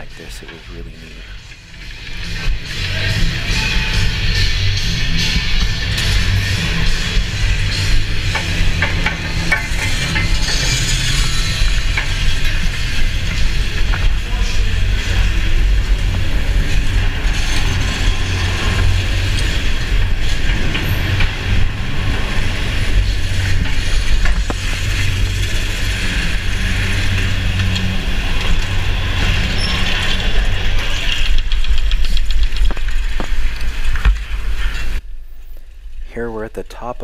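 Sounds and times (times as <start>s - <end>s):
chairlift mechanical rumble: 0.0s - 35.0s.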